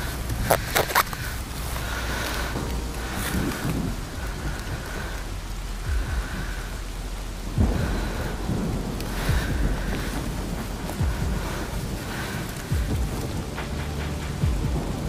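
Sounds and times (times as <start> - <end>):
rain hissing on microphone: 0.0 - 15.0.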